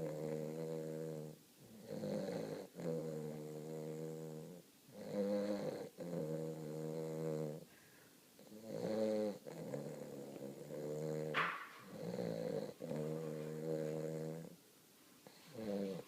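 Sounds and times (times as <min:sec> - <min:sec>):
puppy snoring: 0:00.0 - 0:07.7, 0:08.4 - 0:14.6, 0:15.2 - 0:16.0.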